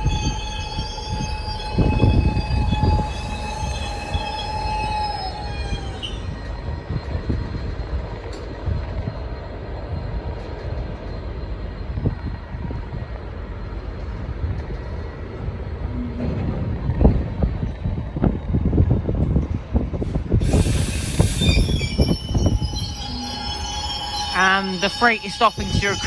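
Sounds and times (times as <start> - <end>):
freight train rumbling: 0.0 - 26.0
train wheel squeal: 0.0 - 26.0.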